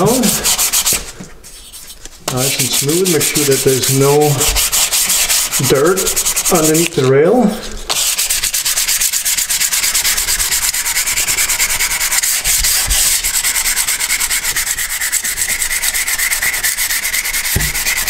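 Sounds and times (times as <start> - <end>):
sandpaper sanding metal: 0.0 - 18.0.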